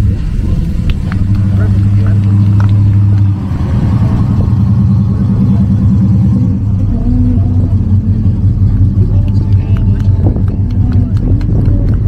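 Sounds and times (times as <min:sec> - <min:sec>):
car engine pulsing exhaust: 0:00.0 - 0:12.0.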